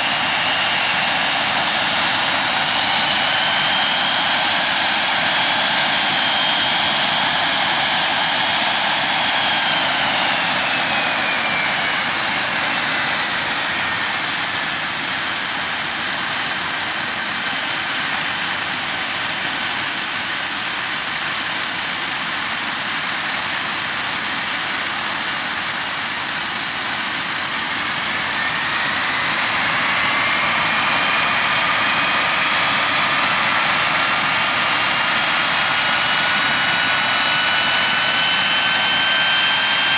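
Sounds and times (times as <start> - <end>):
jet engines running with high whine: 0.0 - 39.9.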